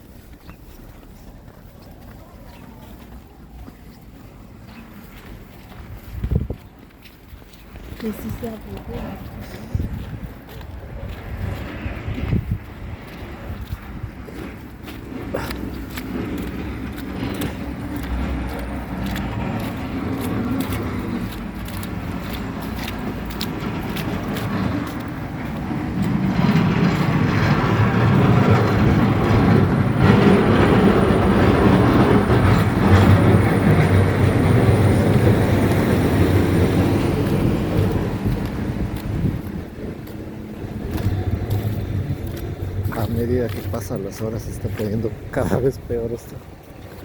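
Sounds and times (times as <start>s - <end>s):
motor vehicle rumble: 0.0s - 47.0s.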